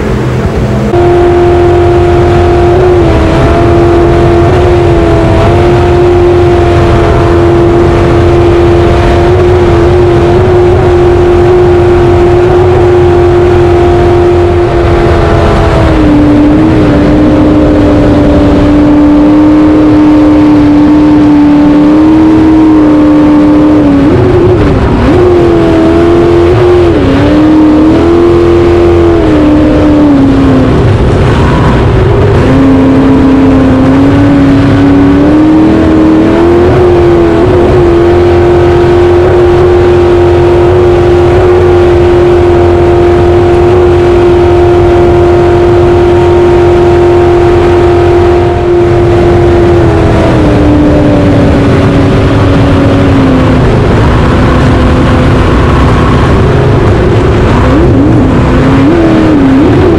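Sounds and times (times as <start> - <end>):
jet boat engine running: 0.0 - 59.9
water rushing: 0.0 - 59.9
wind: 0.0 - 59.9.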